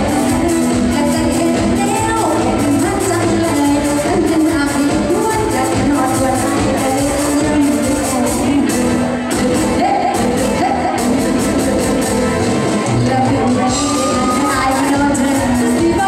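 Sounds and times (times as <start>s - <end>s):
woman singing into a microphone: 0.0s - 11.4s, 12.8s - 16.0s
live rock band playing: 0.0s - 16.0s.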